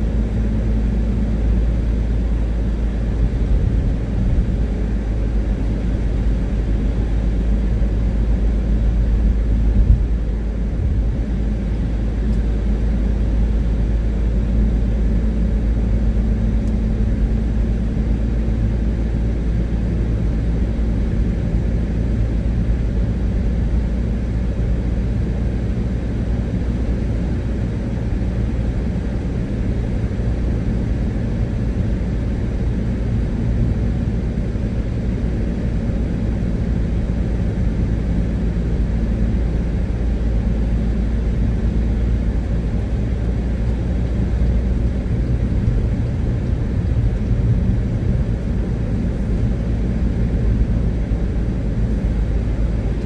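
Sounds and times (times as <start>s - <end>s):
car driving on wet road: 0.0s - 53.0s.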